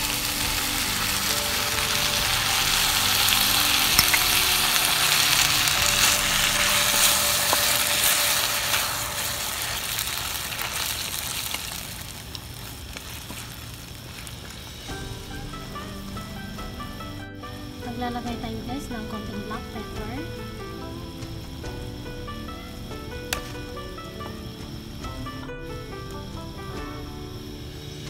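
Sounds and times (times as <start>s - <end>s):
coconut milk sizzling in a wok: 0.0s - 28.0s.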